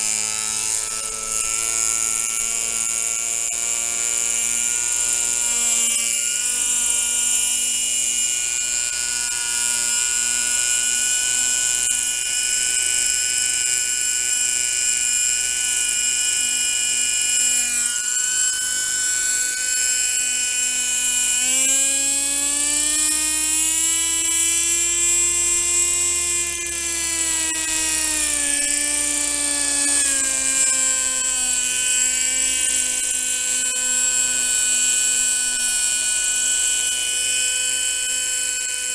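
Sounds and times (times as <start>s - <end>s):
model helicopter engine buzzing: 0.0s - 38.9s.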